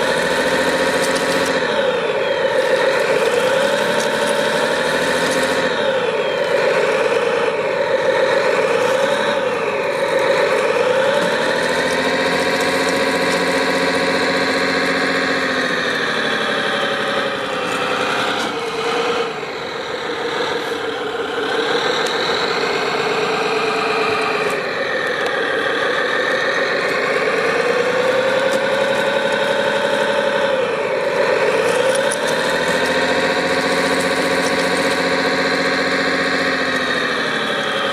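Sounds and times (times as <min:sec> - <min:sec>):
model motor whining: 0:00.0 - 0:37.9.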